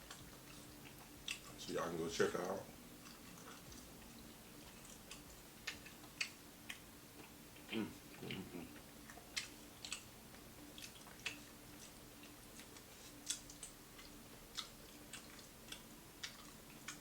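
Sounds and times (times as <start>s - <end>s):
person chewing crispy food: 0.0s - 1.7s, 2.4s - 17.0s
faint steady hum: 0.0s - 17.0s.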